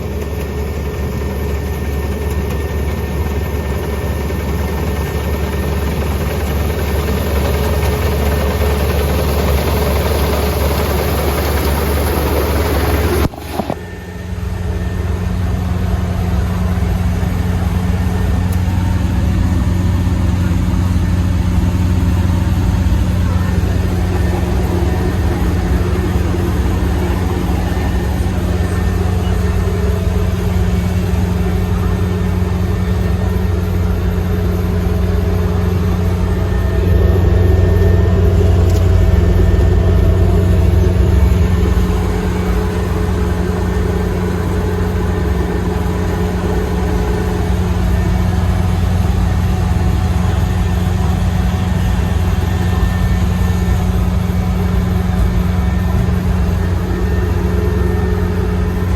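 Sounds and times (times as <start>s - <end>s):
harvester engine drone: 0.0s - 58.9s.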